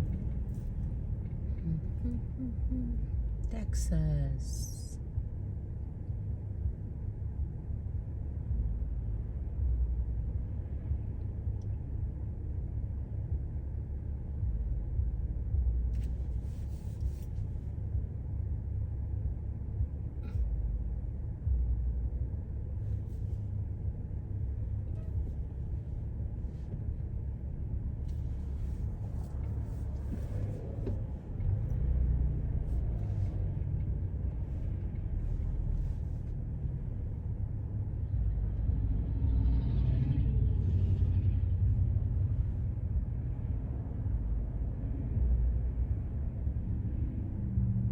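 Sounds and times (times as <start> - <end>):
vehicle engine and road noise: 0.0 - 47.9.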